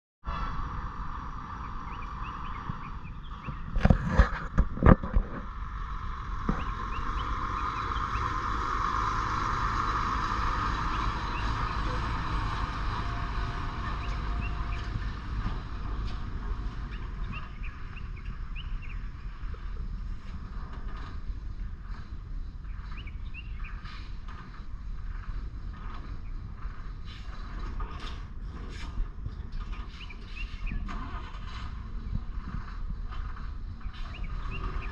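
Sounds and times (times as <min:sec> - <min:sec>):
truck engine under load: 0:00.4 - 0:34.9.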